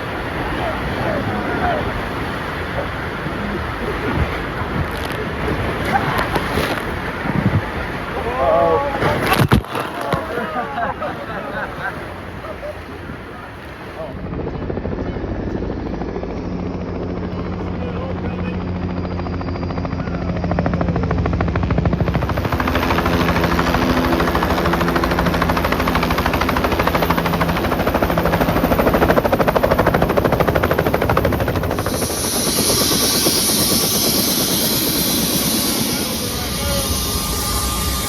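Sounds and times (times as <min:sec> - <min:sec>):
helicopter engine hum: 0:00.0 - 0:08.3, 0:11.0 - 0:38.0
helicopter rotor chop: 0:00.0 - 0:08.3, 0:13.0 - 0:38.0.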